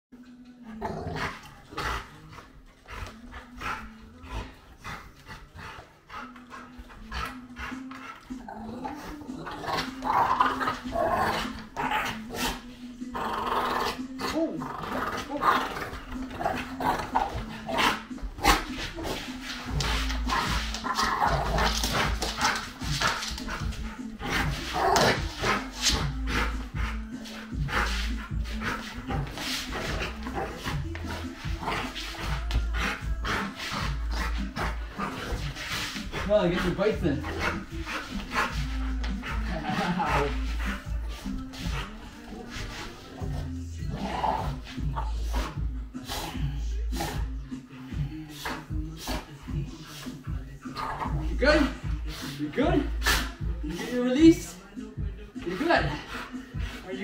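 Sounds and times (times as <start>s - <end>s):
dog growling and snarling: 0.7s - 53.9s.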